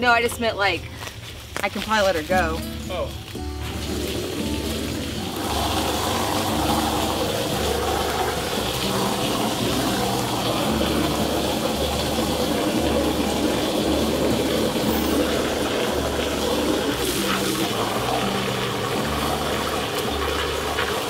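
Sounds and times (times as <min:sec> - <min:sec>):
hose water running into plastic tank: 0:03.6 - 0:21.0.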